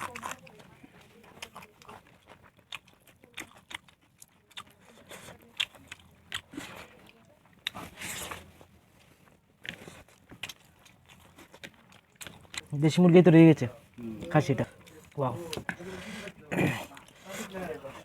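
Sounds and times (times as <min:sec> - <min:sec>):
clicks and scrapes of food: 0:00.0 - 0:12.7, 0:14.2 - 0:17.2
chewing: 0:00.0 - 0:18.0.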